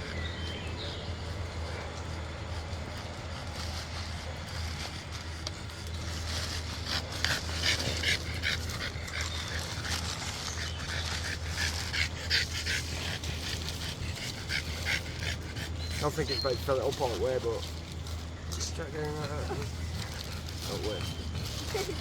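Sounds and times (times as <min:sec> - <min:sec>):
dog panting: 0:00.0 - 0:22.0
steady low hum: 0:00.0 - 0:22.0.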